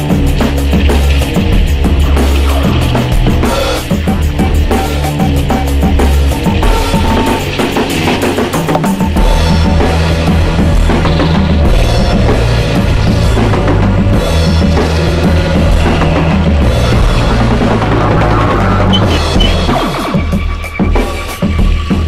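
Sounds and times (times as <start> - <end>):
music with drums and bass: 0.0 - 22.0.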